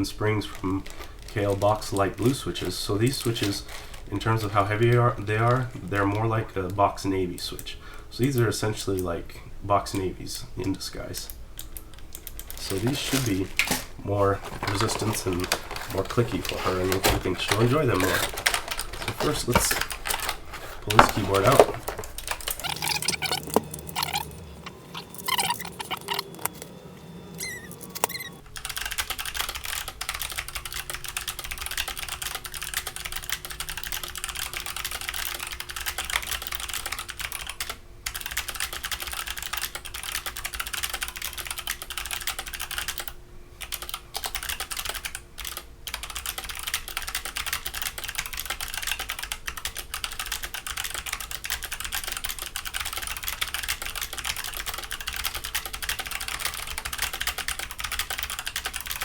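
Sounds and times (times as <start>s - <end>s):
mechanical keyboard clicking: 10.6s - 26.7s, 27.4s - 59.0s.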